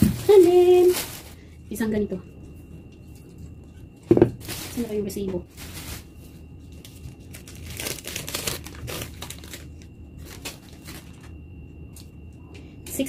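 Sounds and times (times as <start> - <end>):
paper receipt crinkling: 0.0 - 1.6, 3.0 - 12.2.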